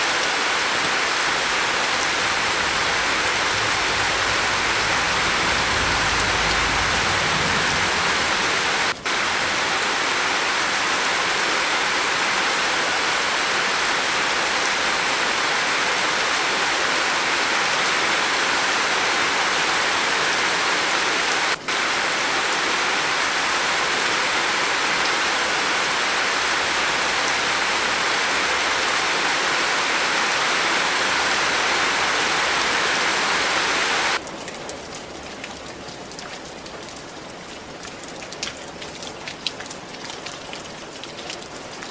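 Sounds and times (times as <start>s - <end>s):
heavy rain on a roof: 0.0s - 41.9s.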